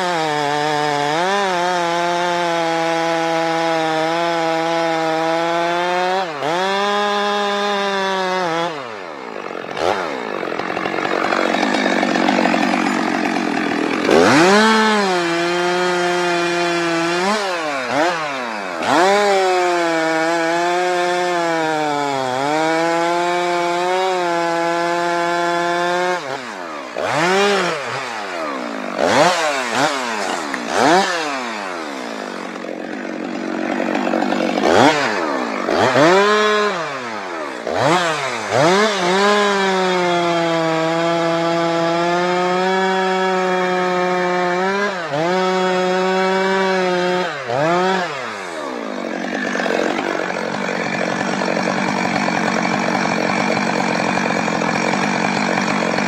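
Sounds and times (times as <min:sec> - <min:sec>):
chainsaw revving in a cut: 0:00.0 - 0:56.0.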